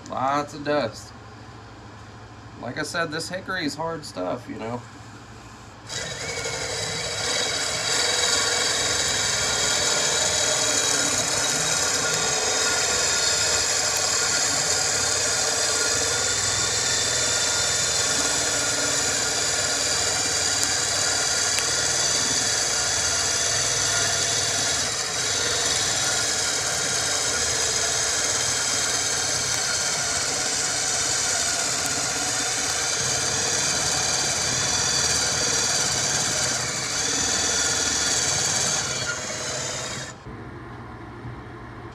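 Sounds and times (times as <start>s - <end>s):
blade shaving wood: 5.9s - 40.3s
electric drill running under load: 5.9s - 40.3s.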